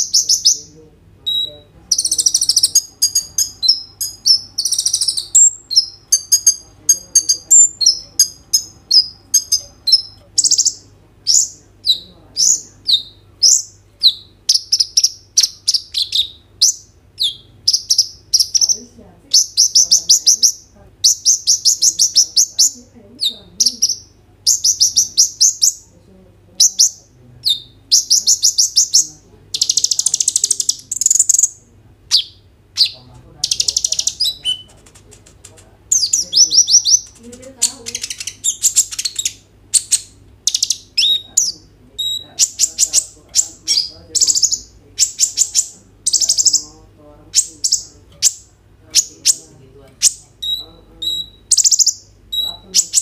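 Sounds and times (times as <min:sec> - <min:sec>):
bird singing chirps and trills: 0:00.0 - 0:25.8, 0:26.6 - 0:34.8, 0:35.9 - 0:53.0.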